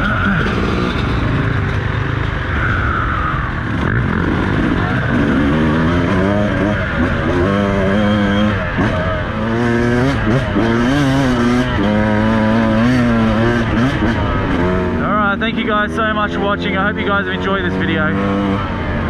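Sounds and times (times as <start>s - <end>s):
motorcycle engine revving: 0.0s - 19.0s
wind and ground noise: 0.0s - 19.0s.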